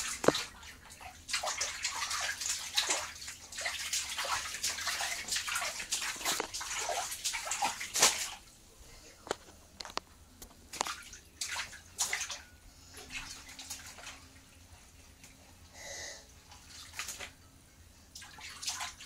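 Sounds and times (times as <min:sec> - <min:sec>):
water splashing in a bathtub: 0:00.0 - 0:08.6, 0:10.7 - 0:15.7, 0:16.4 - 0:17.4, 0:18.1 - 0:19.0.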